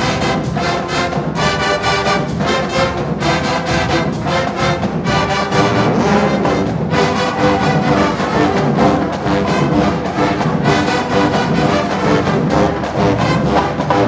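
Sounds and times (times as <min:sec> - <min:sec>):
brass chords: 0:00.0 - 0:14.0
marching band drums: 0:00.0 - 0:14.0.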